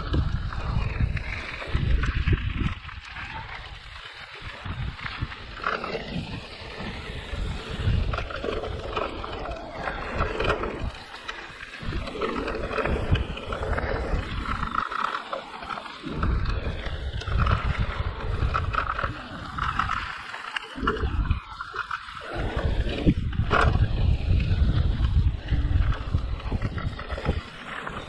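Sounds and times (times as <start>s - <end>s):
wind buffeting microphone: 0.0s - 15.0s, 15.8s - 28.0s
bike rattling: 0.0s - 28.0s
knobby tyres rumbling on dirt: 0.0s - 28.0s.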